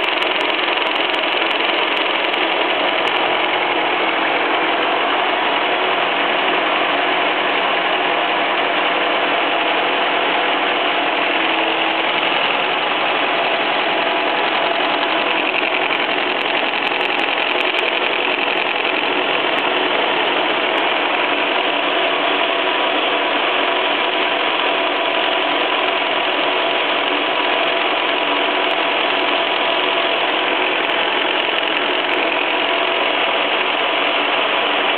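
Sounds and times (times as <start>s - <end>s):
milling machine cutting metal: 0.0s - 34.9s.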